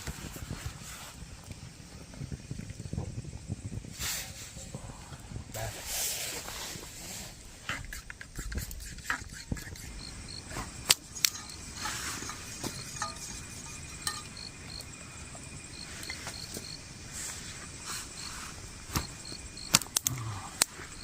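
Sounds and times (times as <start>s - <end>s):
campfire crackling: 0.0s - 21.0s
fire popping: 0.0s - 21.0s
insects chirping: 0.2s - 21.0s.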